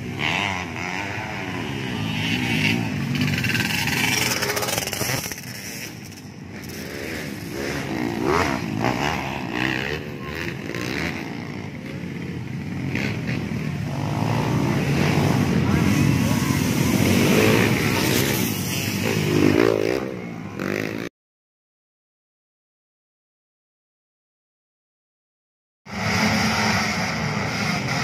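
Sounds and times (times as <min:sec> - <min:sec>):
dirt bike engines revving: 0:00.0 - 0:21.1, 0:25.9 - 0:28.0.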